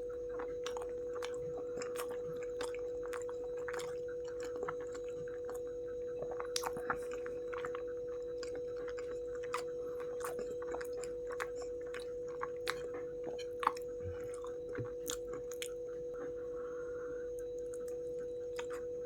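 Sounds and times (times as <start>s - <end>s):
electrical hum: 0.0s - 19.0s
wet chewing and lip smacks: 0.3s - 15.8s, 17.4s - 18.9s.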